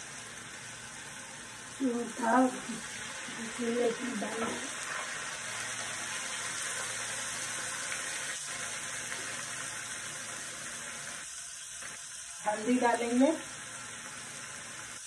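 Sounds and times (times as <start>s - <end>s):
paste sizzling in hot oil: 0.0s - 15.0s.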